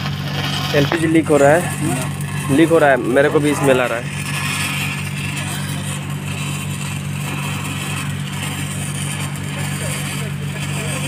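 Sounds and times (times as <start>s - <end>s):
low machine hum: 0.0s - 11.0s
welding arc crackling: 0.0s - 11.0s.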